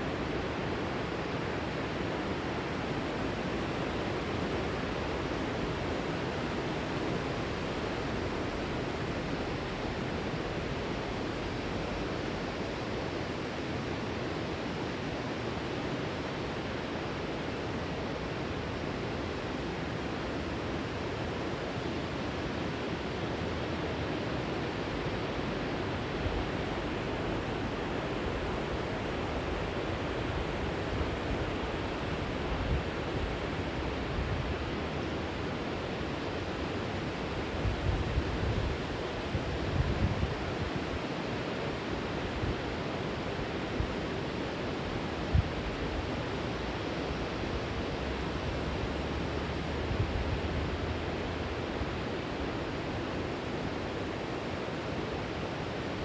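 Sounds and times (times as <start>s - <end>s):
river water pouring over weir: 0.0s - 56.0s.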